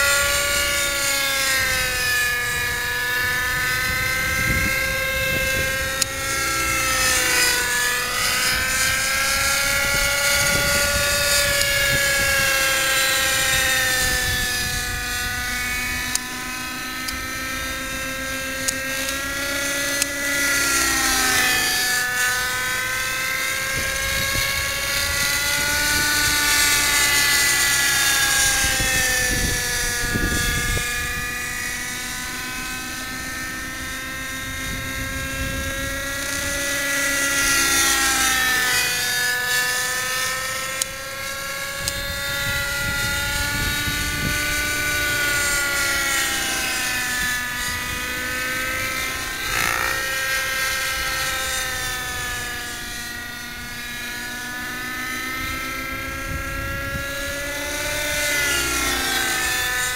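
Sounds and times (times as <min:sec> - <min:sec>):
model helicopter engine whine: 0:00.0 - 0:59.9.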